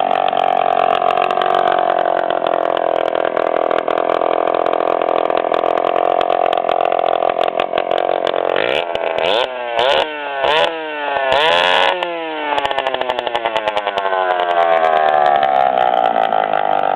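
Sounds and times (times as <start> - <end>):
two-stroke engine revving: 0.0 - 16.9.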